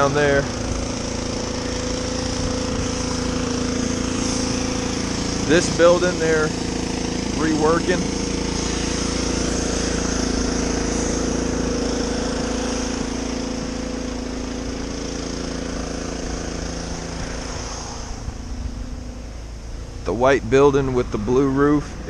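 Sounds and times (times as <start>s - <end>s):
diesel truck idling: 0.0s - 22.0s.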